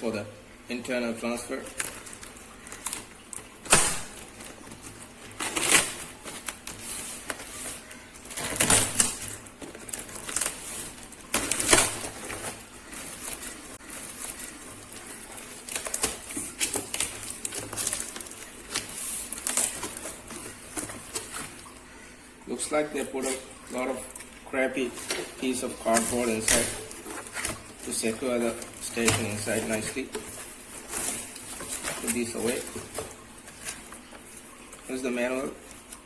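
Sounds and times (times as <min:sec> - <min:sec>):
cardboard scraping and rustling: 0:01.7 - 0:21.8, 0:24.8 - 0:36.0.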